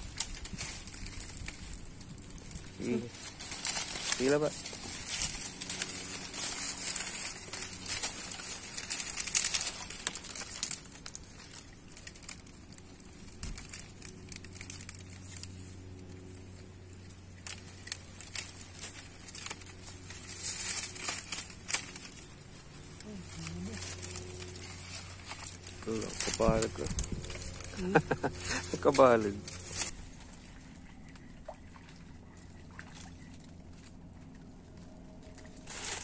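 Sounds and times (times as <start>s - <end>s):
dry palm fronds crackling: 0.0s - 36.0s.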